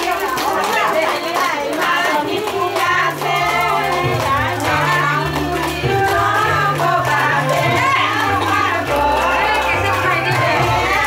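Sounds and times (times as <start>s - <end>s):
hand clapping: 0.0s - 11.0s
women singing together: 0.0s - 11.0s.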